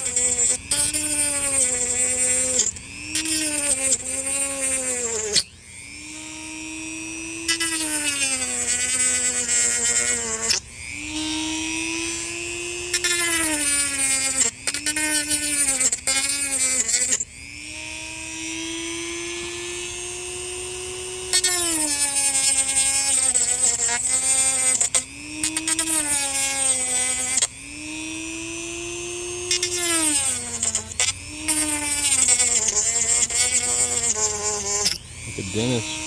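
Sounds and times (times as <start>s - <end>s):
rotary tool cutting gourd: 0.0s - 36.0s.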